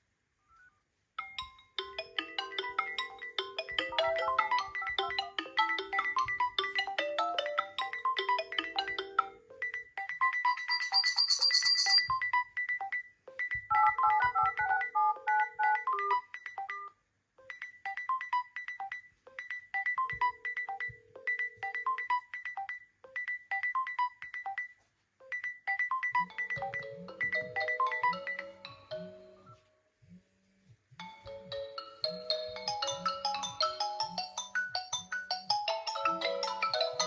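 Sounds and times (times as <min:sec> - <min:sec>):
phone ringtone melody: 0:01.2 - 0:29.7, 0:31.0 - 0:37.0.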